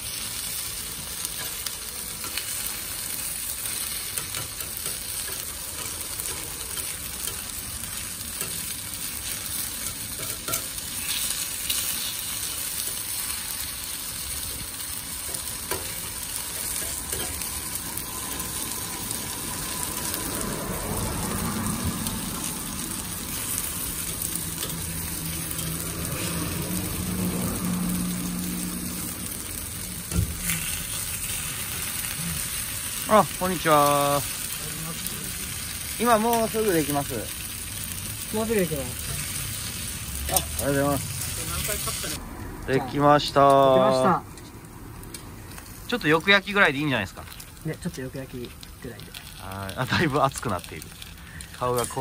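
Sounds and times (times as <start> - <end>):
batter balls sizzling on iron grill: 0.0 - 52.0.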